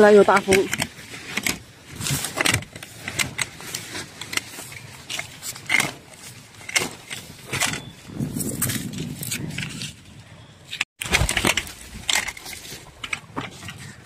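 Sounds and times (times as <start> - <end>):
plastic film rustling and scraping: 0.0 - 10.0, 11.0 - 14.0.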